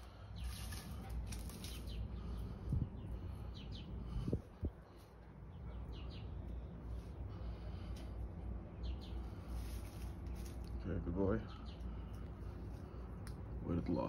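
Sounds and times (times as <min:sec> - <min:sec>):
low steady rumble: 0:00.0 - 0:14.0
small birds chirping: 0:00.0 - 0:14.0.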